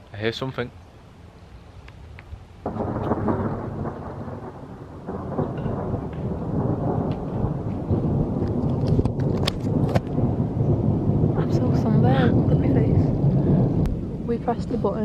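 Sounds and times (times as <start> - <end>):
thunder rumbling: 2.6 - 15.0.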